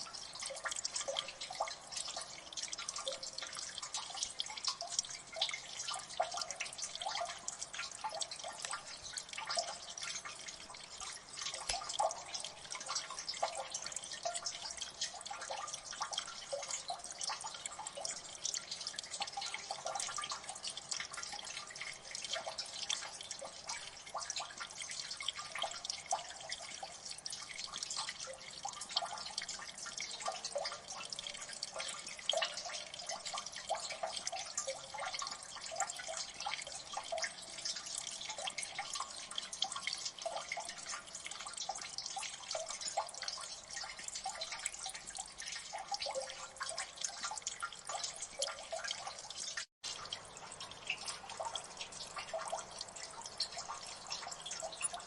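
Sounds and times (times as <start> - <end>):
trickle of running water: 0.0 - 55.0
water dripping: 0.0 - 55.0.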